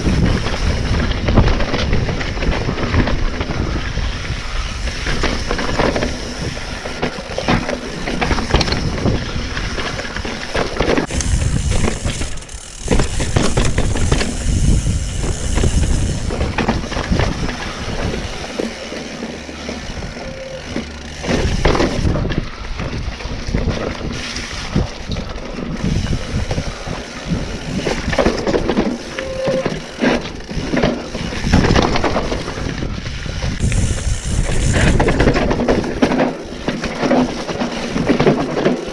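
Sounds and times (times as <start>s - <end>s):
wind rushing on microphone: 0.0s - 18.6s, 21.3s - 29.4s, 30.4s - 36.2s
bike knocks and rattles: 0.0s - 38.9s.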